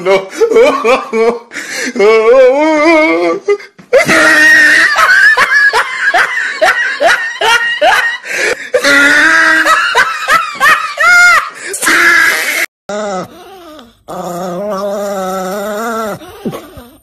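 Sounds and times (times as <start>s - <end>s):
person laughing hard: 0.0s - 12.7s, 16.0s - 17.0s.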